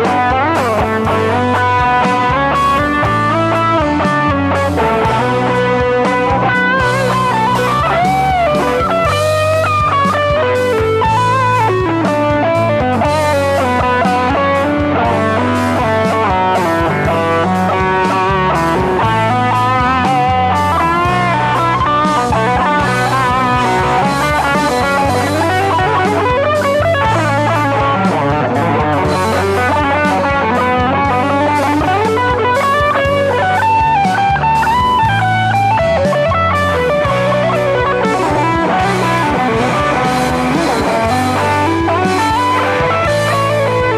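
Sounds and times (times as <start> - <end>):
electric guitar lead lines: 0.0 - 43.9
steady bass: 0.0 - 43.9.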